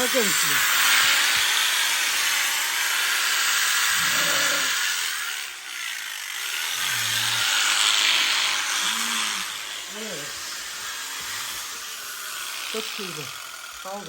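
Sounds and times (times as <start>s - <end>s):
electric clippers shearing fleece: 0.0s - 14.0s.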